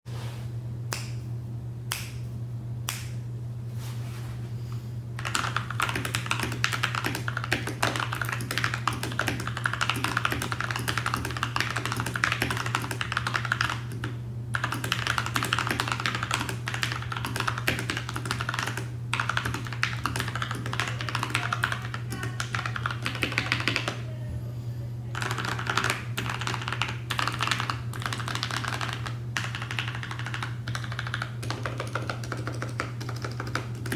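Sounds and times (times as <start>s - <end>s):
typing on mechanical keyboard: 5.2s - 24.0s, 25.2s - 33.9s.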